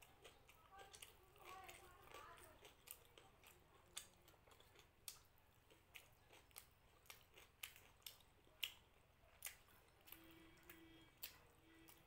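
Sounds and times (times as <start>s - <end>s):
wet chewing clicks: 0.0s - 12.0s.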